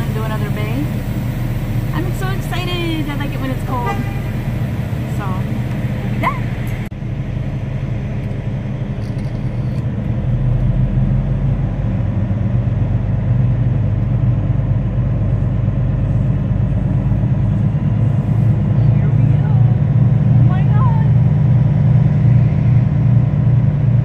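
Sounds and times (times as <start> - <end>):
truck diesel engine rumbling: 0.0 - 24.0.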